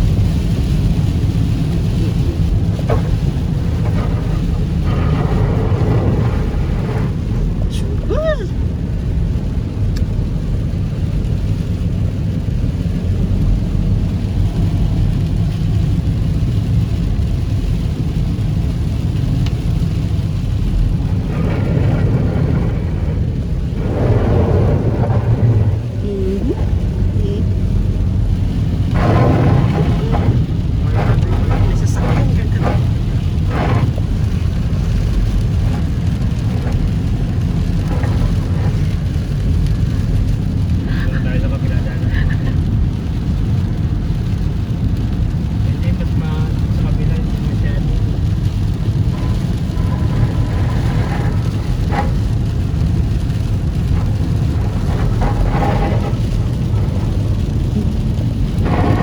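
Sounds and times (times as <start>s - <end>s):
car road and engine rumble: 0.0s - 59.0s
hiss of rain and spray: 0.0s - 59.0s.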